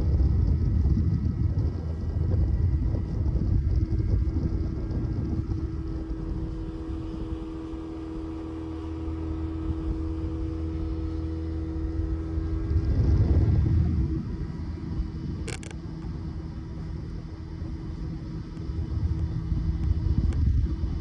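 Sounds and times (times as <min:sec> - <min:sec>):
boat motor humming: 0:00.0 - 0:21.0
rough low rumble: 0:00.0 - 0:21.0.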